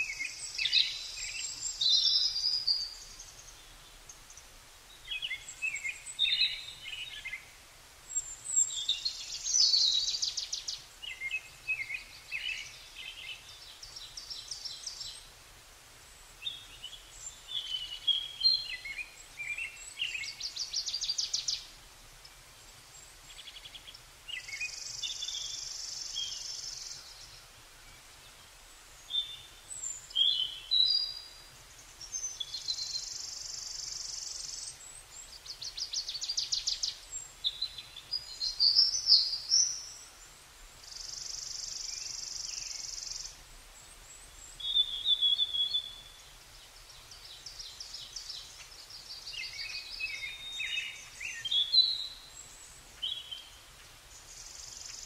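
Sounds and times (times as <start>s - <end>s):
birds singing: 0.0s - 15.3s, 16.4s - 28.4s, 29.0s - 55.0s.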